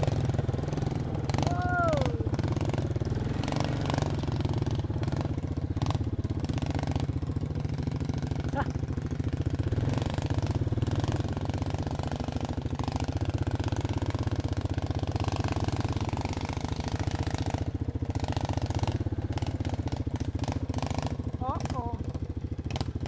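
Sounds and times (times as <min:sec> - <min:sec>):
vehicle engine running at low revs: 0:00.0 - 0:23.0.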